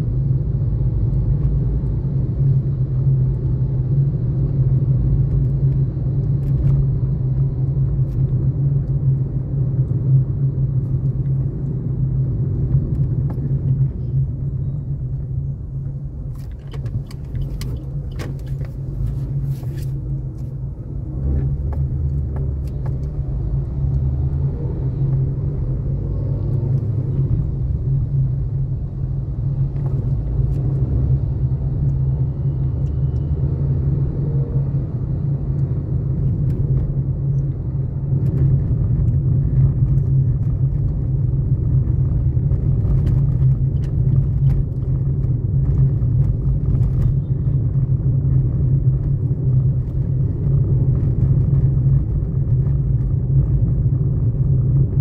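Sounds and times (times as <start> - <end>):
car rumbling in traffic: 0.0 - 55.0.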